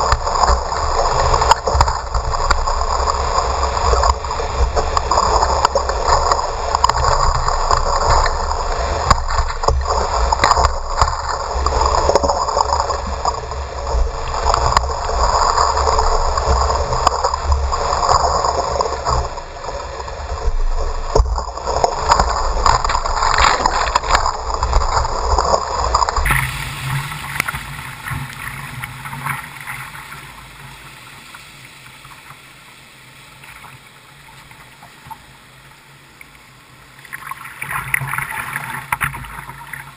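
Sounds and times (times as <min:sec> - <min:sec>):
whitewater rapids rushing: 0:00.0 - 0:34.9
water flowing gently: 0:00.0 - 0:39.9.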